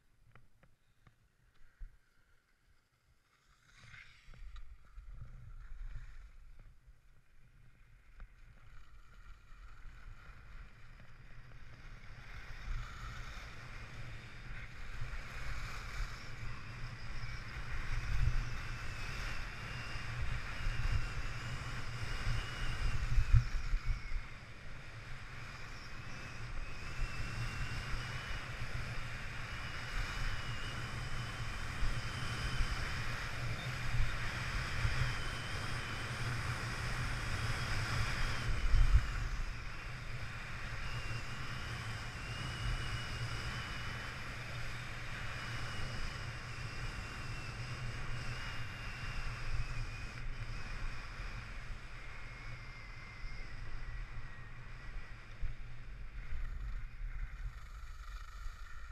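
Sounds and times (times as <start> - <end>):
wind rumbling on microphone: 8.4 - 58.9.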